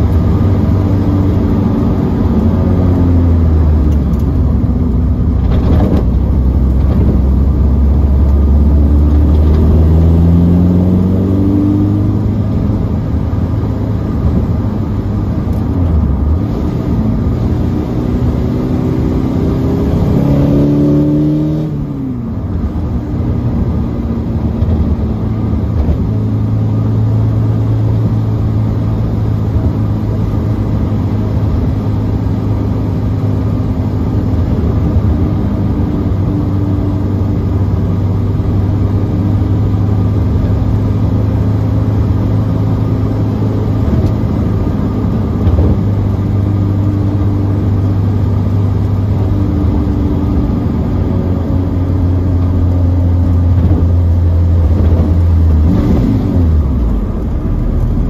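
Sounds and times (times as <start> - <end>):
car engine cruising: 0.0 - 58.0
road noise: 0.0 - 58.0.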